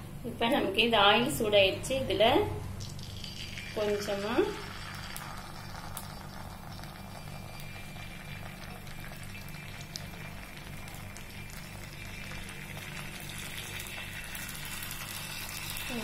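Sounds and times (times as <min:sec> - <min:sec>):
low steady hum: 0:00.0 - 0:16.0
hot oil sizzling: 0:02.8 - 0:16.0.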